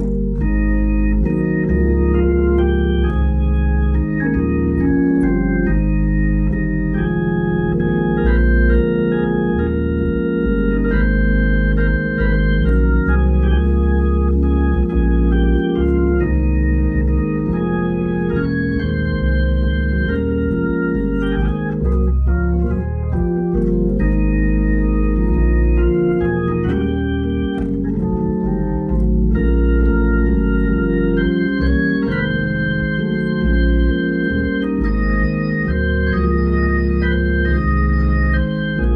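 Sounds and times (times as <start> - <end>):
organ playing held chords: 0.0 - 38.9.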